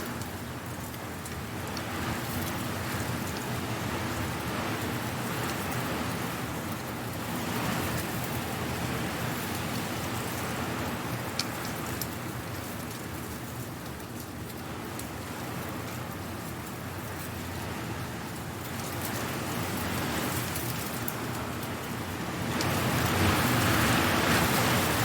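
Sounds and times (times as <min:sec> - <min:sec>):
wind blowing dry leaves: 0:00.0 - 0:25.0.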